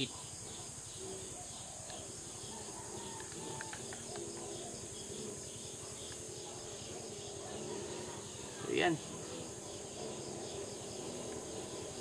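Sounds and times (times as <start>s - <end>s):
insect chorus drone: 0.0s - 12.0s
short insect chirps: 0.0s - 12.0s.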